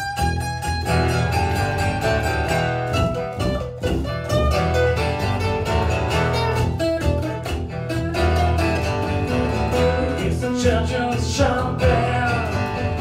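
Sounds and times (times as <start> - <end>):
bowed strings: 0.0 - 13.0
guitar: 0.0 - 13.0
steady bass line: 0.0 - 13.0.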